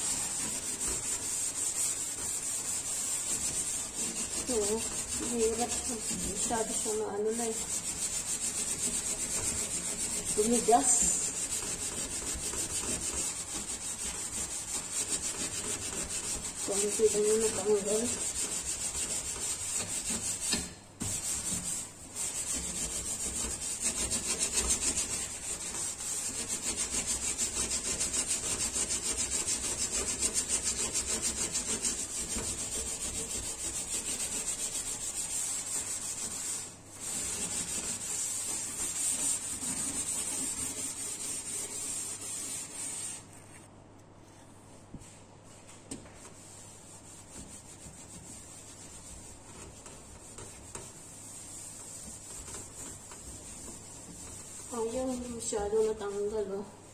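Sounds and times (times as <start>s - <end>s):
scouring pad scrubbing stovetop: 0.0s - 43.7s, 45.0s - 56.9s
cloth wiping: 0.0s - 56.9s.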